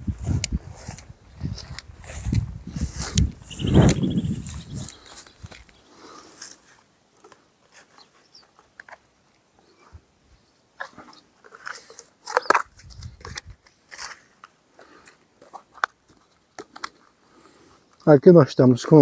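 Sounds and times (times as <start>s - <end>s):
rustling and crunching handling noises: 0.0s - 10.0s, 10.7s - 19.0s.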